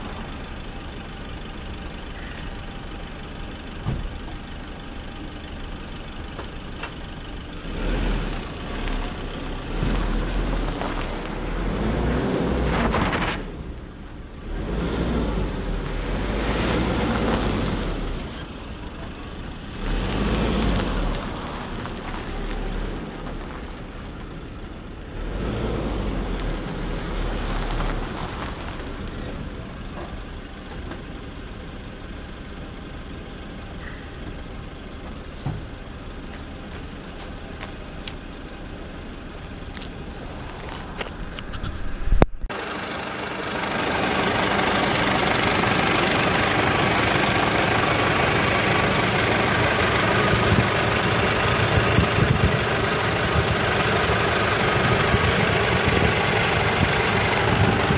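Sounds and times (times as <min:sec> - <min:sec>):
diesel truck engine running: 0:00.0 - 0:57.9.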